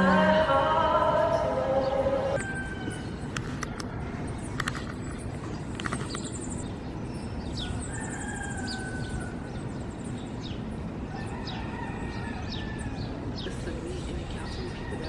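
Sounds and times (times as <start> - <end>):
birds chirping and trilling: 0.0 - 15.0.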